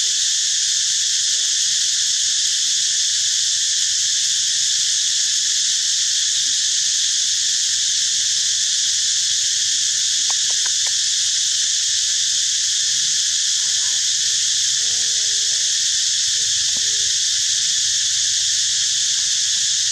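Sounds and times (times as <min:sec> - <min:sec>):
insect chorus drone: 0:00.0 - 0:19.9.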